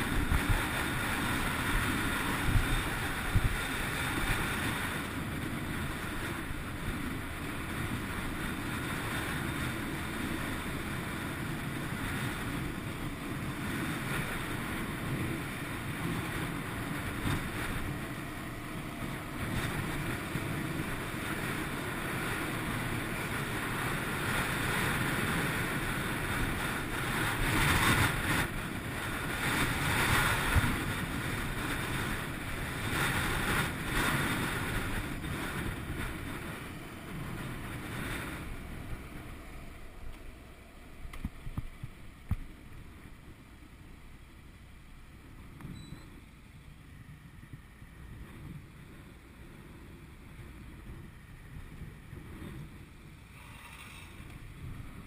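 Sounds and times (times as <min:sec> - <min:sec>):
road and engine noise: 0:00.0 - 0:55.0
wind rushing over microphone: 0:00.0 - 0:55.0.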